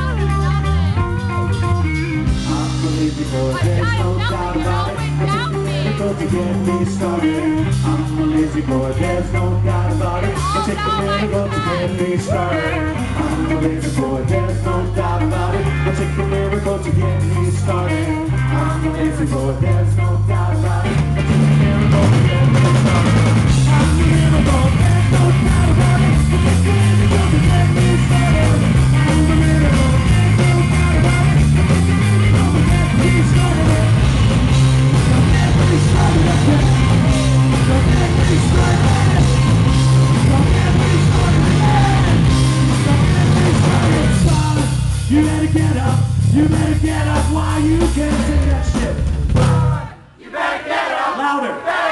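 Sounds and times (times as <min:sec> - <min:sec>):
person singing lead vocal: 0:00.0 - 0:01.2, 0:02.0 - 0:50.1
electric guitar: 0:00.0 - 0:46.8
bass guitar: 0:00.0 - 0:50.2
drums: 0:00.0 - 0:51.0.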